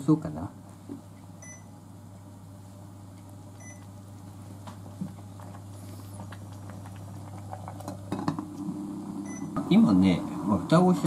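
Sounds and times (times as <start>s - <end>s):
induction cooktop humming: 0.0s - 11.0s.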